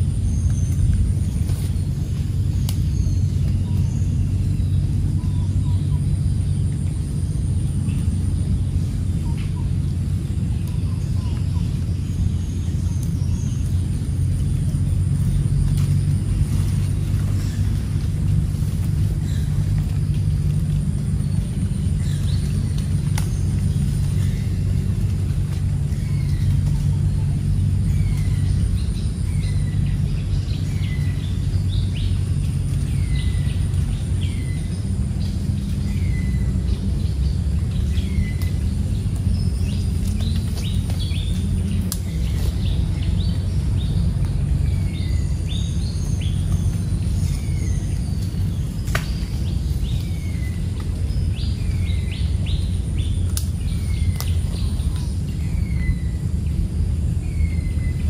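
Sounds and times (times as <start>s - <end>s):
birds chirping: 0.0s - 58.0s
steady low rumble: 0.0s - 58.0s.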